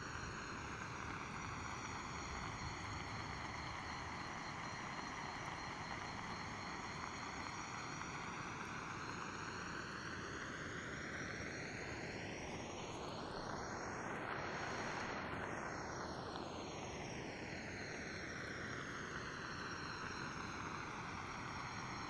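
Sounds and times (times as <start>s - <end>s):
night insect calls: 0.0s - 22.0s.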